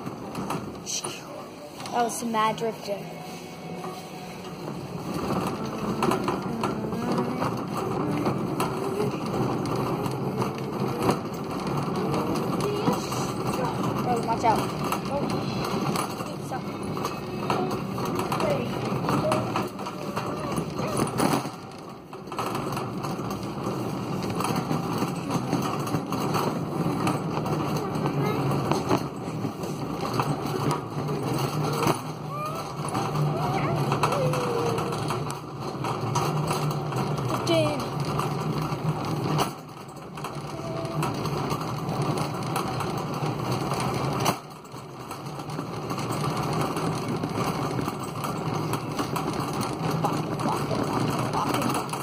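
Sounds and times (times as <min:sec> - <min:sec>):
cart wheels rattling on concrete: 0:00.0 - 0:52.0.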